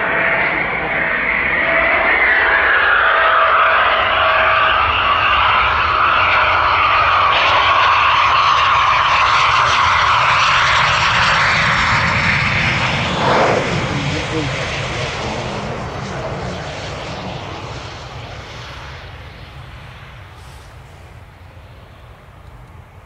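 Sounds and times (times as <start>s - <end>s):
jet engines running loud: 0.0s - 23.0s.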